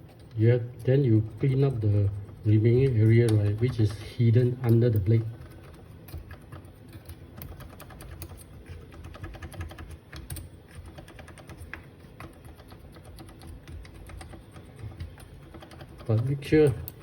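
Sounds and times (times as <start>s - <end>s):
light clicks and scratches: 0.0s - 17.0s.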